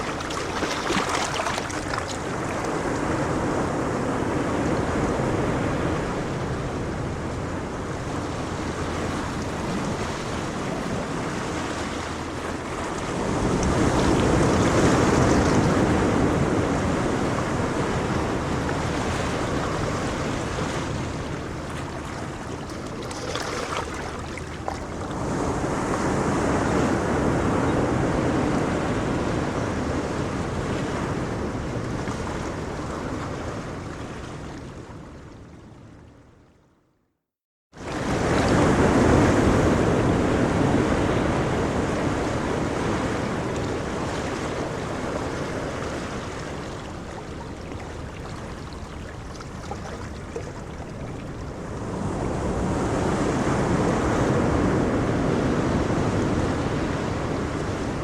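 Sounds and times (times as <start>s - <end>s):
ocean waves breaking on shore: 0.0s - 36.1s, 37.8s - 58.0s
wind: 0.0s - 37.0s, 37.7s - 58.0s.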